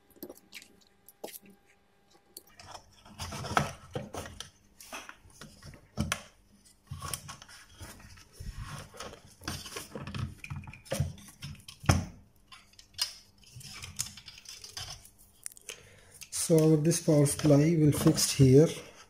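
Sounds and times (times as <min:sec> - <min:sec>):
clicks and rustling of wires: 0:00.0 - 0:19.0.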